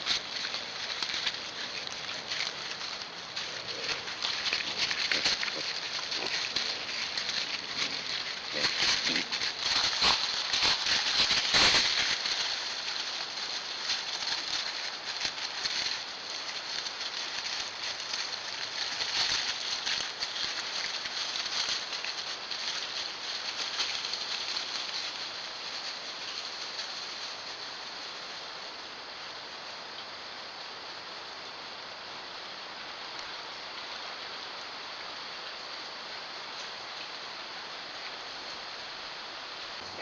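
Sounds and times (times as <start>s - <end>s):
dry leaves rustling and crackling: 0.0s - 30.2s, 32.8s - 40.0s
steady hiss: 0.0s - 40.0s.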